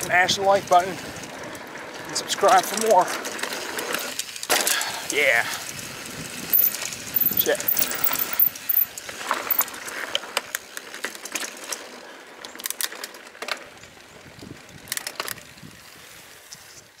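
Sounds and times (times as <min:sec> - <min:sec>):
bike clicks and rattles: 0:00.0 - 0:17.0
bike tyres crunching on dirt: 0:00.0 - 0:17.0.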